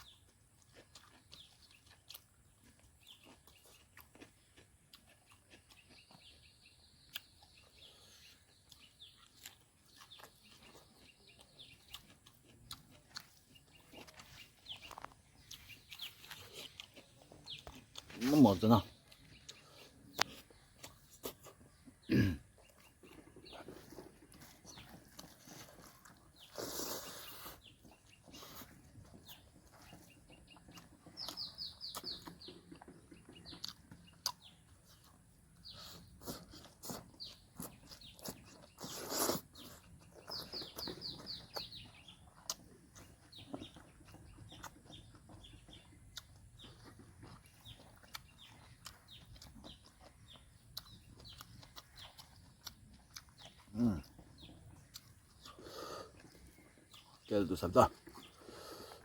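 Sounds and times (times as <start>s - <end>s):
person chewing: 0.0s - 59.0s.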